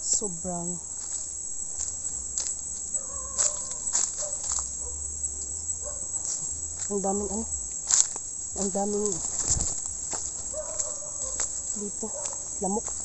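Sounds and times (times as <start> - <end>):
chorus of forest insects: 0.0 - 13.0.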